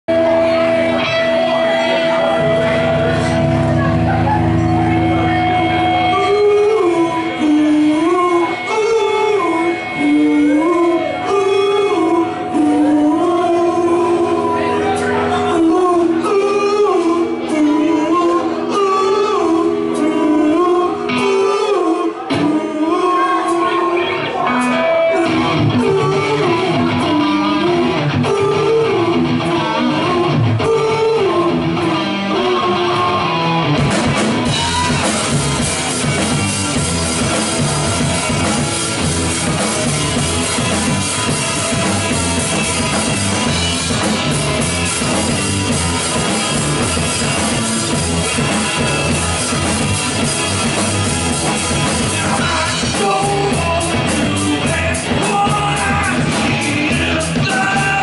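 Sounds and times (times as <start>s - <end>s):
live rock band playing: 0.1s - 58.0s.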